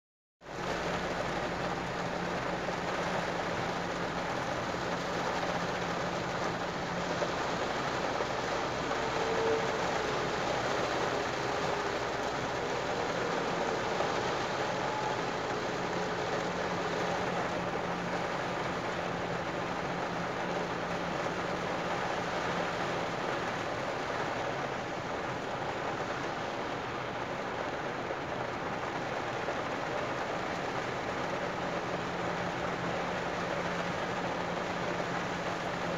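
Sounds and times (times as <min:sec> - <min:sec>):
low engine hum: 0:00.4 - 0:35.9
rain hissing on car: 0:00.4 - 0:35.9.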